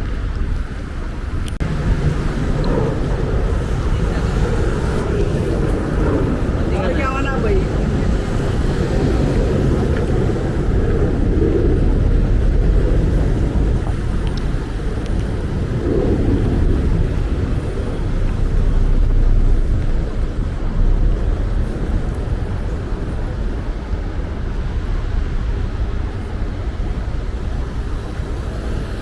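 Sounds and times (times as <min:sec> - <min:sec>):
low rumble of passing vehicles: 0:00.0 - 0:29.0.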